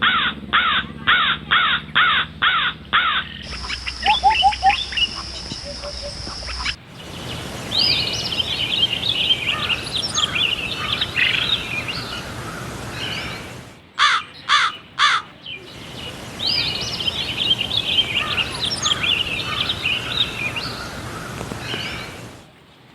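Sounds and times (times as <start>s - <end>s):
birds chirping and singing: 3.3s - 22.4s.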